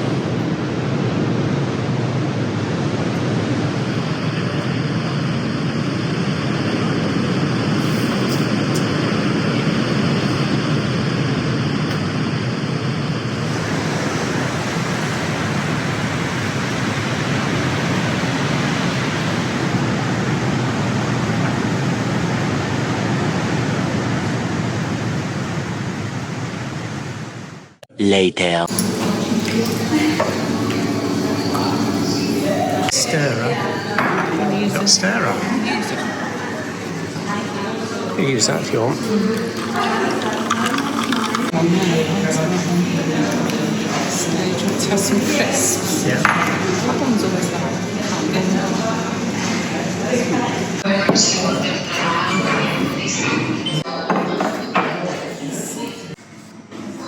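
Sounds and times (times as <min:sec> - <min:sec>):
ocean surf rushing: 0:00.0 - 0:27.8, 0:28.7 - 0:53.8.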